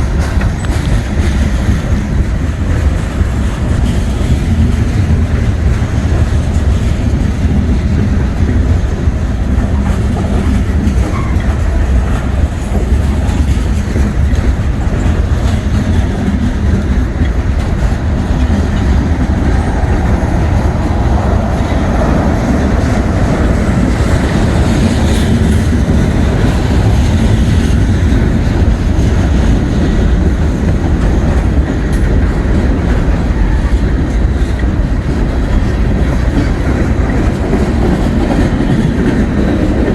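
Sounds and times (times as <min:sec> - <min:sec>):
freight train cars rolling: 0:00.0 - 0:39.9
wheels clattering over rail joints: 0:00.0 - 0:39.9.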